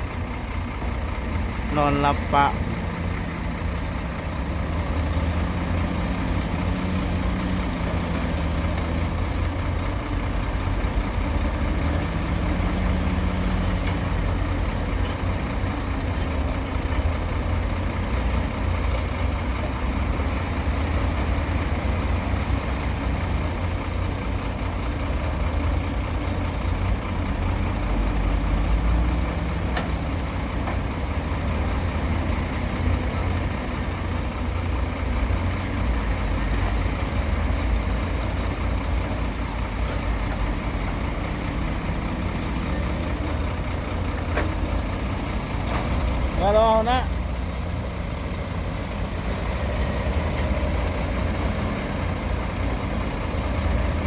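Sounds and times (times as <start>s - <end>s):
heavy diesel engines running: 0.0s - 54.0s.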